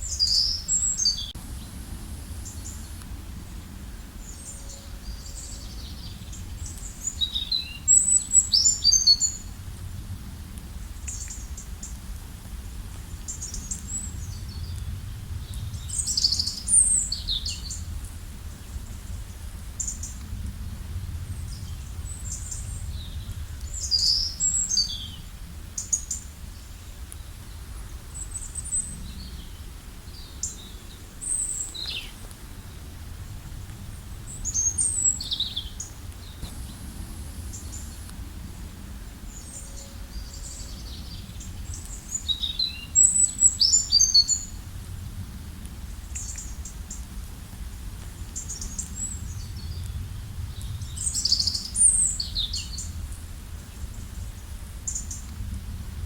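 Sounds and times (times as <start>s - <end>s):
songbirds chirping and trilling: 0.0s - 9.6s, 13.0s - 20.3s, 21.0s - 44.7s, 47.7s - 55.4s
steady low rumble: 0.0s - 56.0s.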